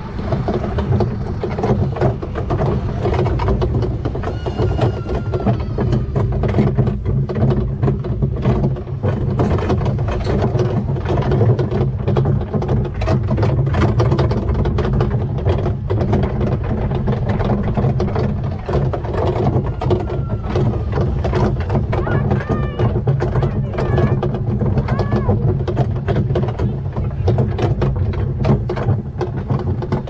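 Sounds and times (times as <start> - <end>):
cars rattling and knocking: 0.0 - 30.0
small tractor engine running: 0.0 - 30.0.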